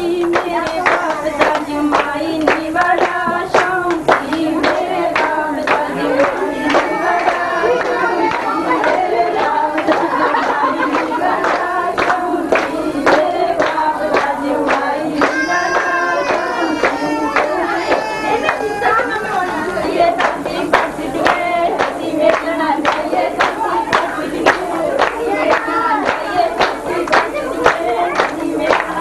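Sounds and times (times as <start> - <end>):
group of voices singing: 0.0 - 29.0
rhythmic hand clapping: 0.0 - 29.0.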